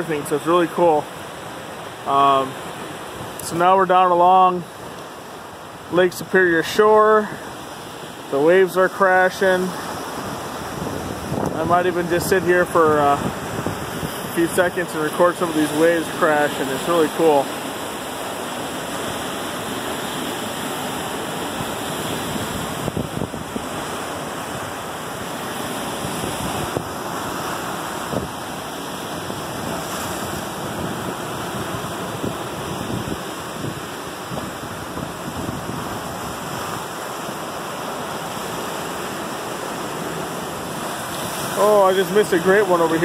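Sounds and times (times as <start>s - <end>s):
waves crashing on rocks: 0.0s - 43.0s.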